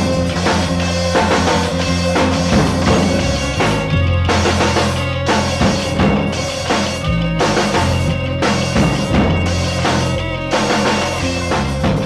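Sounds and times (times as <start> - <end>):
bass guitar: 0.0 - 12.0
drum kit beat: 0.0 - 12.0
guitar: 0.0 - 12.0.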